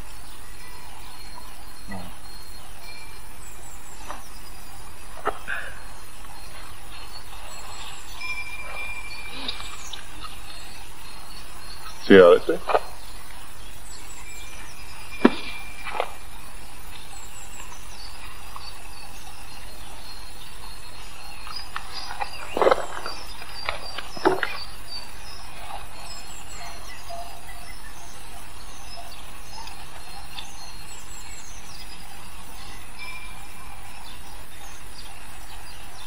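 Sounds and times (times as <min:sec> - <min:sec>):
faint bird chirps: 0:00.0 - 0:36.0
steady hiss and hum: 0:00.0 - 0:36.0.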